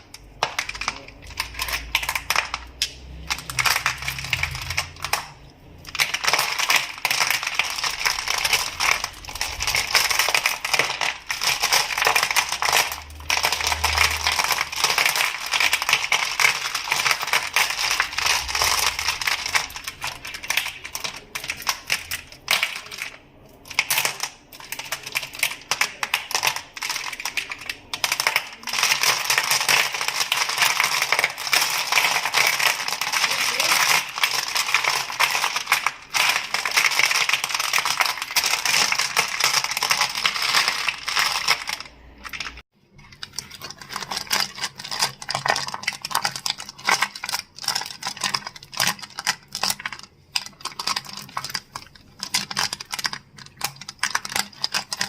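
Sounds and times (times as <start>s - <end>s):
crystals clicking: 0.0s - 55.0s.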